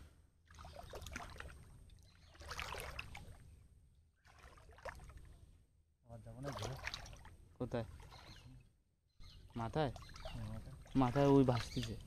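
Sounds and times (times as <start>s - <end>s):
water splashing and sloshing: 0.0s - 8.8s, 9.4s - 12.0s.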